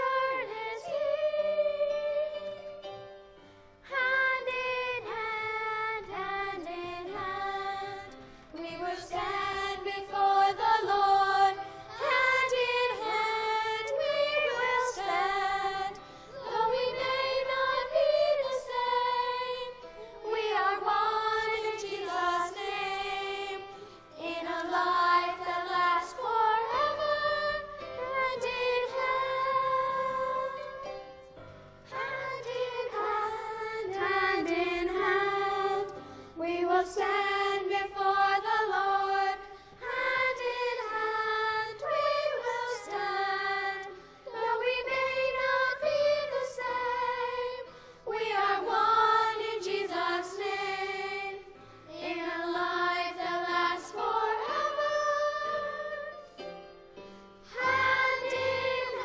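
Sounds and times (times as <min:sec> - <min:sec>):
children singing: 0:00.0 - 0:02.7, 0:03.9 - 0:31.0, 0:31.9 - 0:56.2, 0:57.5 - 0:59.0.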